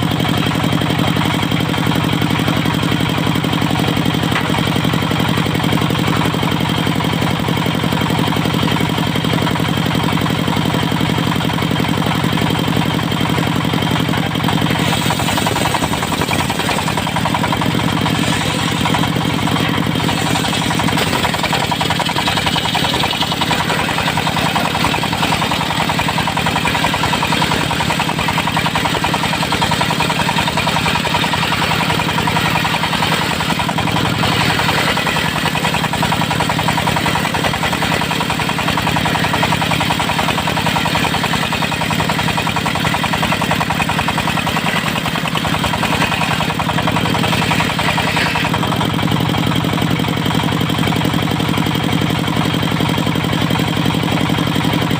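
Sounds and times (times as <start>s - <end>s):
diesel engine clattering: 0.0s - 54.9s.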